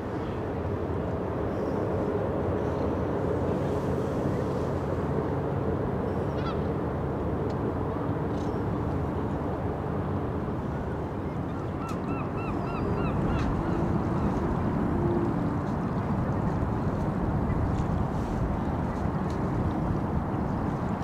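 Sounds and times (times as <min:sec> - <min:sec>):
low hum of machinery: 0:00.0 - 0:21.0.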